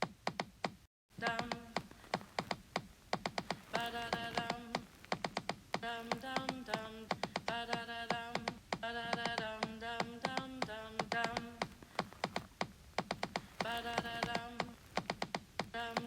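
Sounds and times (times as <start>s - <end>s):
fast clicky percussion: 1.4s - 16.0s.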